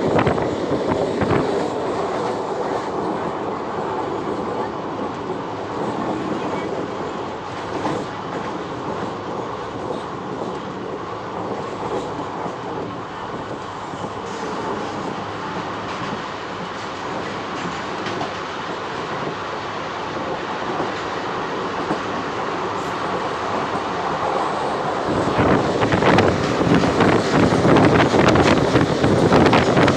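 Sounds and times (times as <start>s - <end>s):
train rumble and rattle: 0.0s - 29.9s.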